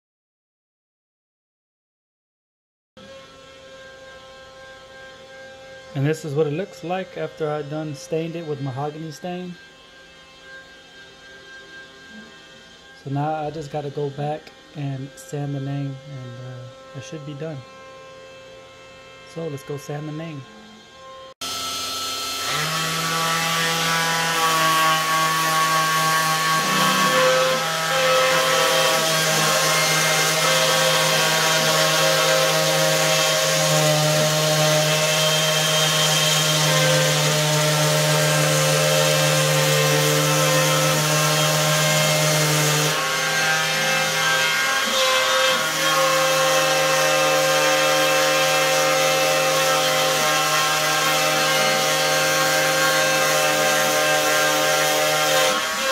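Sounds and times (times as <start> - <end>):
orbital sander sanding wood: 3.0 - 55.9.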